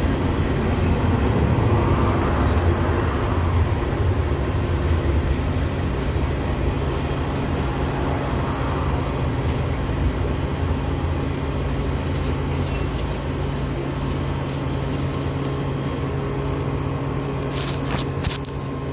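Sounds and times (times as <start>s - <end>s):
train running with low drone: 0.0s - 18.9s.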